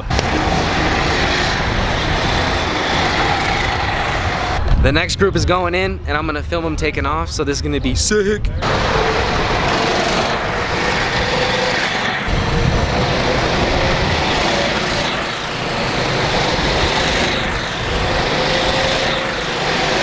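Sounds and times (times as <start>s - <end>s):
go-kart engines running hard: 0.0s - 6.9s, 8.5s - 20.0s.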